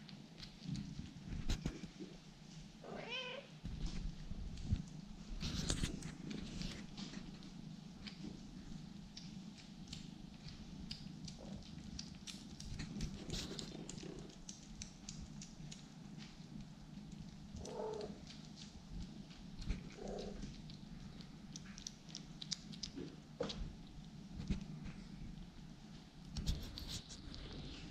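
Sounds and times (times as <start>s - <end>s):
kittens eating wet food: 0.0s - 27.9s
cat purring: 2.8s - 27.9s.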